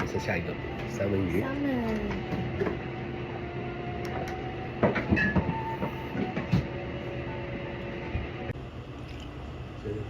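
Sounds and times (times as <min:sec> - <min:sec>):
droning hum: 0:00.0 - 0:10.0.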